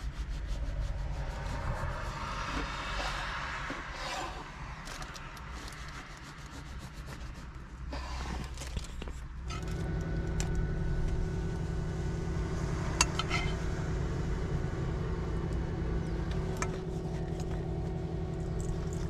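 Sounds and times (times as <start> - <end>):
low mechanical motor hum: 0.0 - 19.0.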